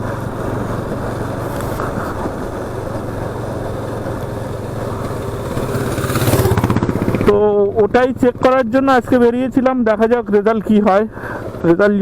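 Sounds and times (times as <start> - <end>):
motorcycle engine running: 0.0 - 10.4
road noise: 0.0 - 12.0
wind: 0.0 - 12.0.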